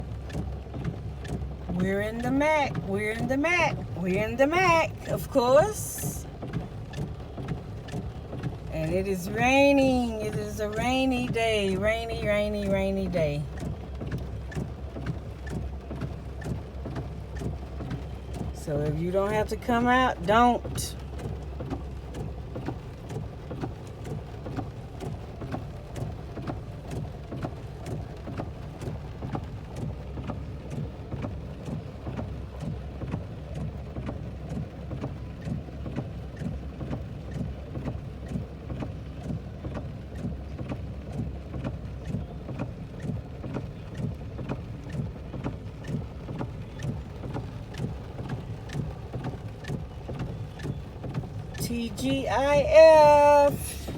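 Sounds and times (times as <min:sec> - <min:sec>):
constant low rumble: 0:00.0 - 0:53.9
raindrops ticking on a surface: 0:00.0 - 0:53.9
steady rain: 0:00.0 - 0:53.9.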